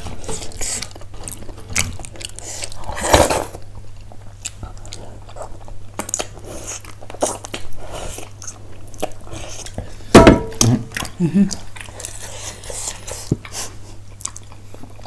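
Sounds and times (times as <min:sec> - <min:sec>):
close-miked chewing: 0:00.0 - 0:03.0, 0:03.6 - 0:10.0, 0:10.9 - 0:15.0.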